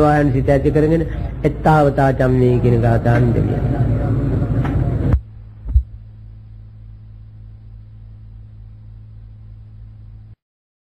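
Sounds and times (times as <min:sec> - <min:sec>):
low electrical hum: 0:00.0 - 0:10.4.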